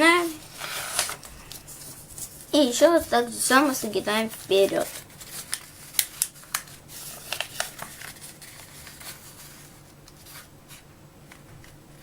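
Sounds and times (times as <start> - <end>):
paper being folded and creased: 0.0 - 10.8.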